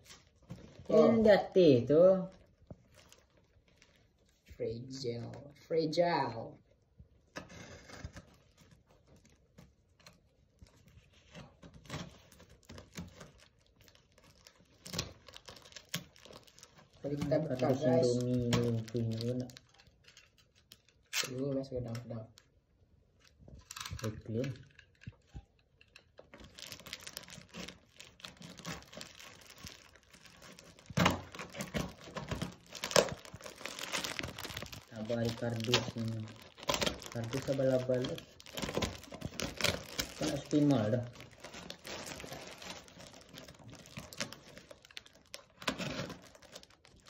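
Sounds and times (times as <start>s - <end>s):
plastic crinkling: 0.0s - 4.5s, 7.7s - 47.0s.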